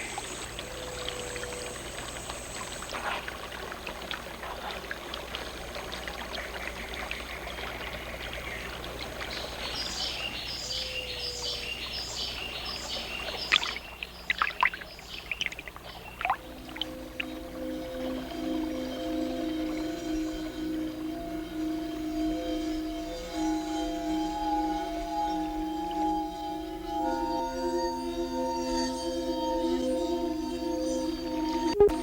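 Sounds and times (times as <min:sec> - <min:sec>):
running water: 0:00.0 - 0:32.0
soft sustained music tones: 0:00.0 - 0:32.0.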